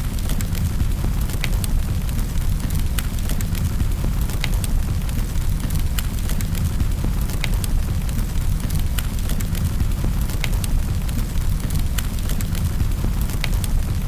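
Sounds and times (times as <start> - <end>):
logs crackling and popping: 0.0 - 14.0.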